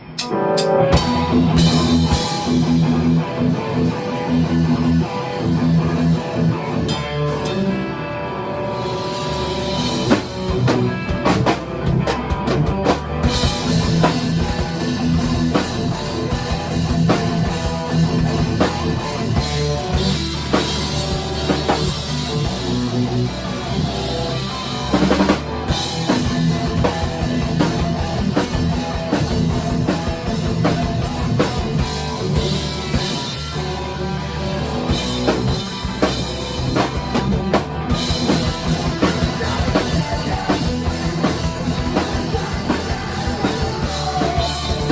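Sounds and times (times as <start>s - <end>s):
rock music on drums and guitar: 0.0s - 44.9s.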